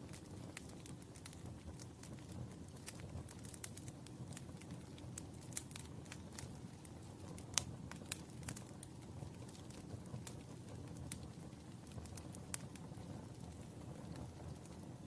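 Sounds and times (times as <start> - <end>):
sharp pops of fire: 0.0 - 14.9
low rumble of flames: 0.0 - 15.0
wood fire crackling: 0.0 - 15.0.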